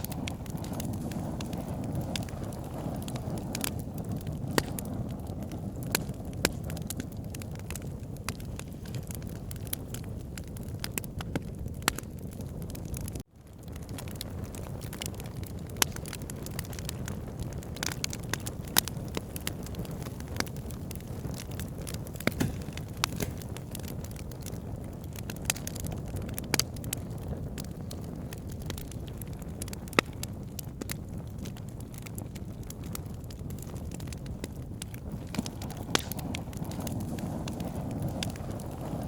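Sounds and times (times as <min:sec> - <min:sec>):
campfire pops and snaps: 0:00.0 - 0:39.0
fire burning rumble: 0:00.0 - 0:39.0.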